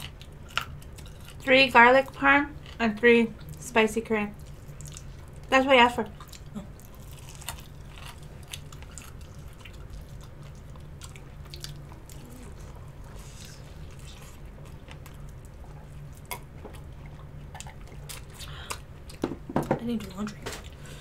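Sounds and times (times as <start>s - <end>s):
close chewing and biting: 0.0s - 1.5s, 4.3s - 21.0s.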